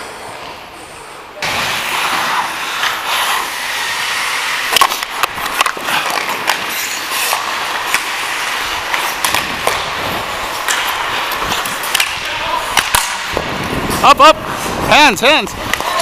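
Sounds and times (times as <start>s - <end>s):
skate blades scraping ice: 0.0s - 16.0s
hockey sticks clacking on puck: 1.4s - 16.0s.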